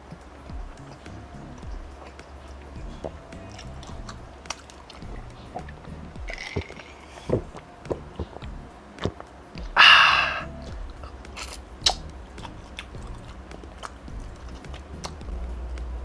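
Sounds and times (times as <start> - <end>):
chewing chicken: 0.1 - 16.0
wet mouth clicks: 0.1 - 16.0.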